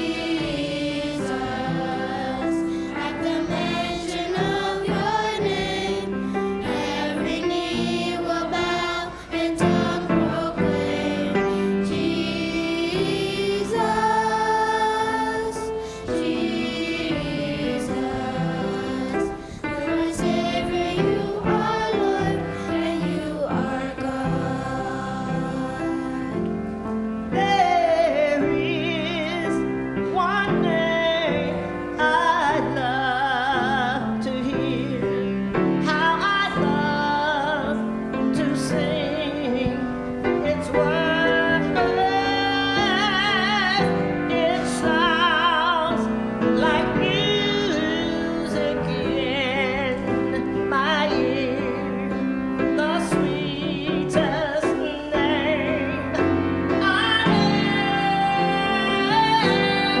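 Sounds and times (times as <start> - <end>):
person singing with vibrato: 0.0 - 60.0
sustained keyboard accompaniment: 0.0 - 60.0.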